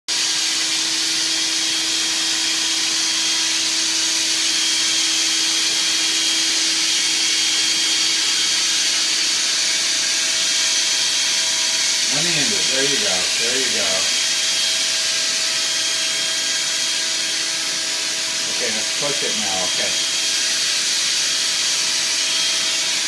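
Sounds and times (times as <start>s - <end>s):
vacuum cleaner running: 0.1s - 23.0s.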